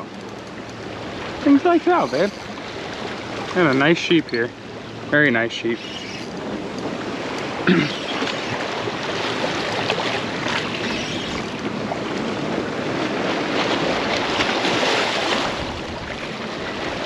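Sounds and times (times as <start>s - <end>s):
waves splashing against rocks: 0.0s - 17.0s.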